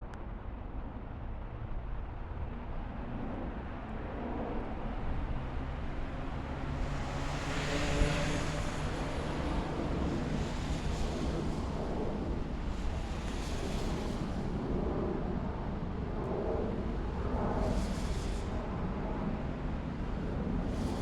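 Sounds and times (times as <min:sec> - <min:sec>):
jet aircraft flying past: 0:01.4 - 0:21.0.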